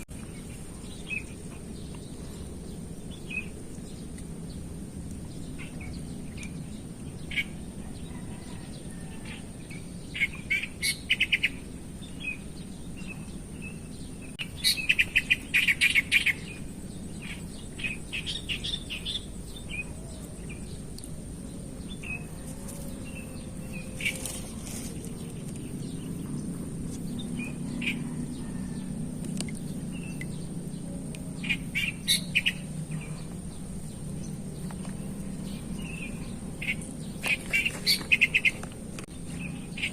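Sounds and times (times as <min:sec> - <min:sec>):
low background rumble: 0:00.0 - 0:39.9
wild birds chirping: 0:00.0 - 0:39.9.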